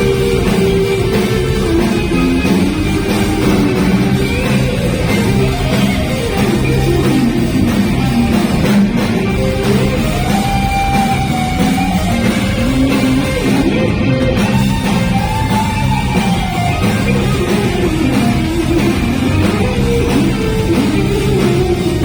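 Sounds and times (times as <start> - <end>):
bass: 0.0 - 22.0
drums: 0.0 - 22.0
electric guitar lead: 0.0 - 22.0.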